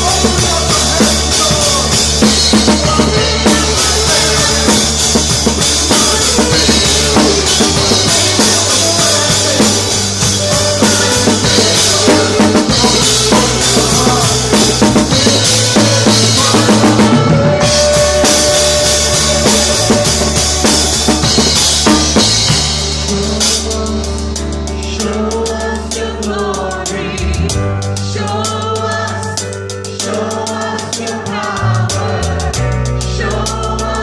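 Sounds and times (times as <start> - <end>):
bass notes: 0.0 - 34.0
drum kit: 0.0 - 34.0
worship band playing: 0.0 - 34.0.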